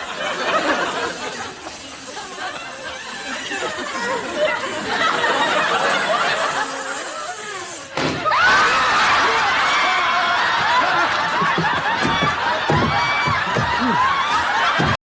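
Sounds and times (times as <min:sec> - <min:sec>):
studio audience laughing: 0:00.0 - 0:15.0.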